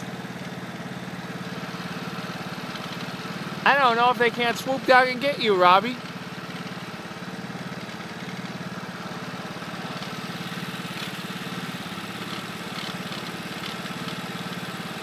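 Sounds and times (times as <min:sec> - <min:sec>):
small vehicle engine running: 0:00.0 - 0:15.0.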